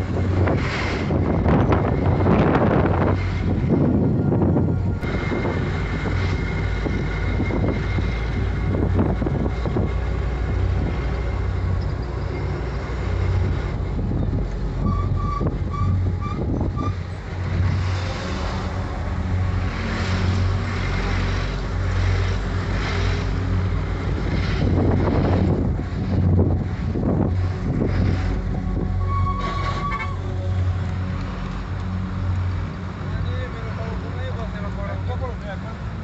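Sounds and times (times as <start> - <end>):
tyre and wind rush: 0.0 - 32.1
bus engine drone: 0.0 - 36.0.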